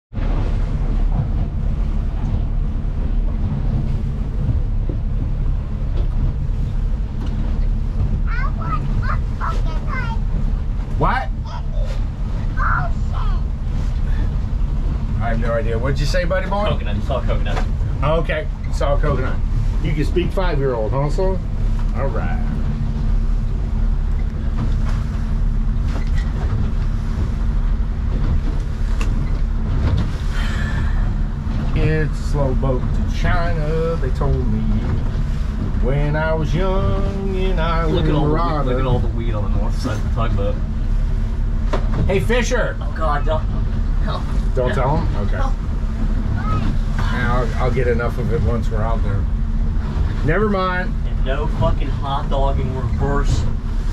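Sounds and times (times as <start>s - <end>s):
boat engine rumbling: 0.0s - 53.9s.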